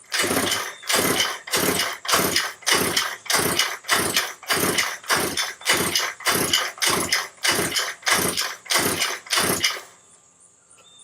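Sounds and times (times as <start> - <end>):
engine pull-starter cranking: 0.0 - 10.0.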